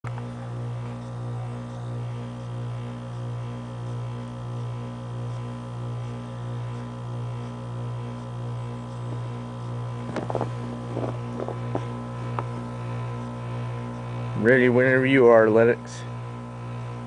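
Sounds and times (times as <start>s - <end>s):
heat pump humming: 0.0s - 17.0s.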